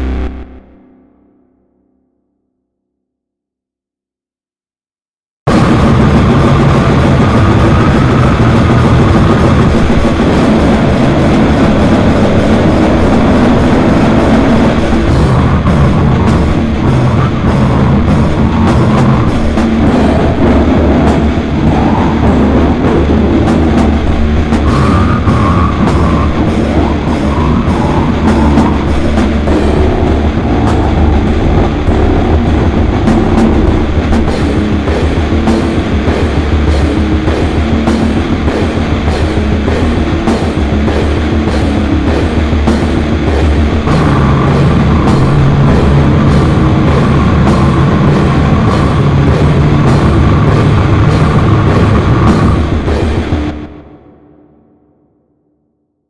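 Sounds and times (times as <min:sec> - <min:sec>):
heavy distorted metal music: 0:00.0 - 0:01.8, 0:05.5 - 0:54.1.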